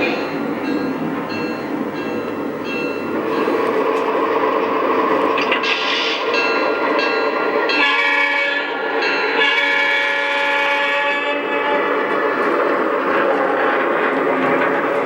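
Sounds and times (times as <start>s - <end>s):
model train running noise: 0.0s - 15.0s.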